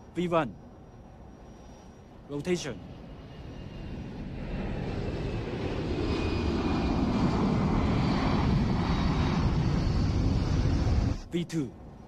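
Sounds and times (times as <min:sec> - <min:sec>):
faint high whine: 0:00.0 - 0:12.0
jet engines rushing: 0:01.2 - 0:12.0.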